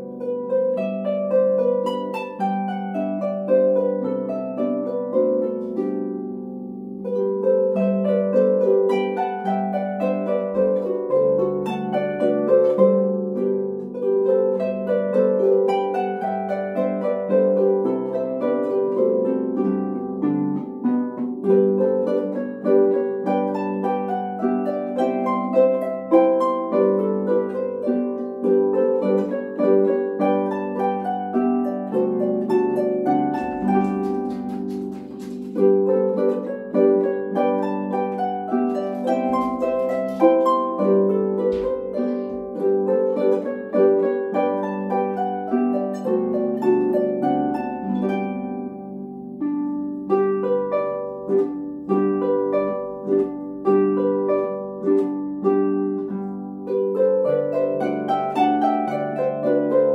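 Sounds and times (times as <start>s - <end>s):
two harps playing folk dance: 0.0s - 59.9s.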